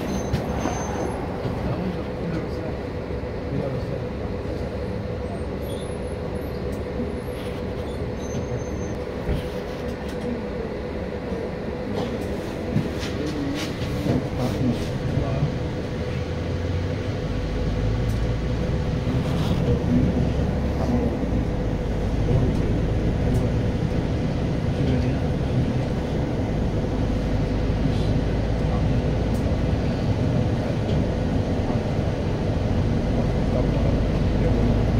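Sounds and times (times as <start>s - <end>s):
bus engine and road rumble: 0.0s - 34.9s
constant hum: 0.0s - 34.9s.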